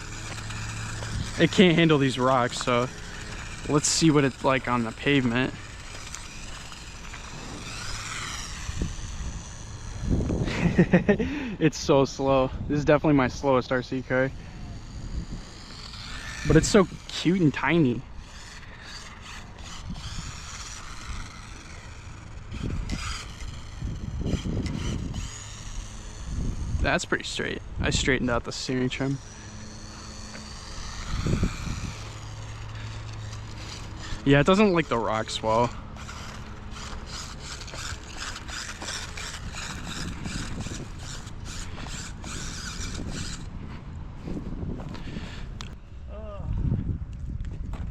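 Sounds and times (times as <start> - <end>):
small electric motor whining: 0.0 - 45.9.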